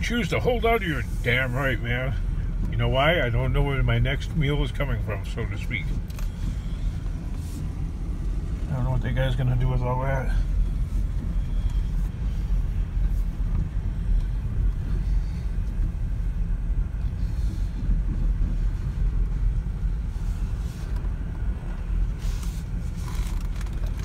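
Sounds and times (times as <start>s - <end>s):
vehicle engine and road rumble: 0.0s - 24.0s.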